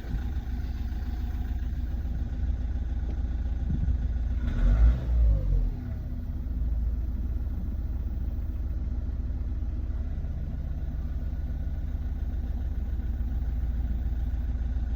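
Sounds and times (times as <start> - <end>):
diesel engine idling roughly: 0.0 - 14.9.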